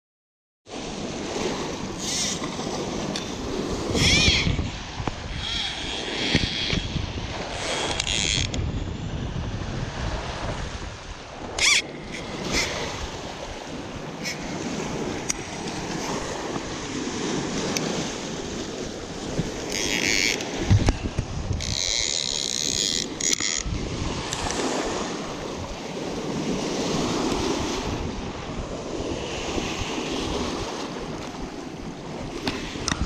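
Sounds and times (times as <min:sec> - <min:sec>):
wind buffeting microphone: 0:00.7 - 0:33.0.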